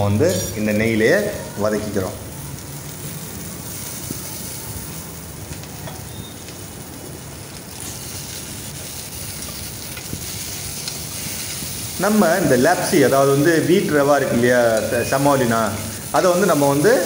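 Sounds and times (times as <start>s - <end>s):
onions sizzling in oil: 0.3s - 17.0s.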